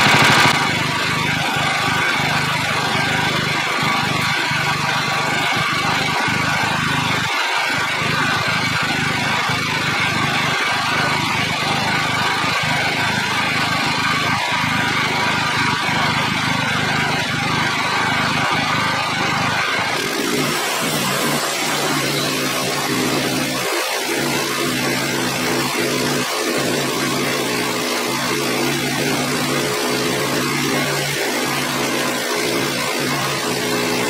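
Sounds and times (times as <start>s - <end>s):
small gasoline engine running: 0.0s - 34.0s.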